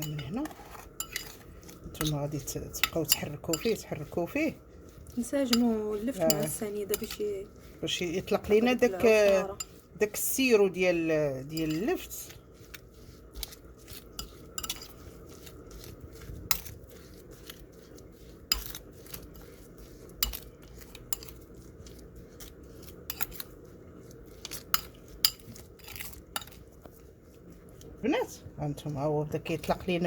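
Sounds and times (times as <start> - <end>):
spoon clinking and scraping bowl: 0.0 - 28.0.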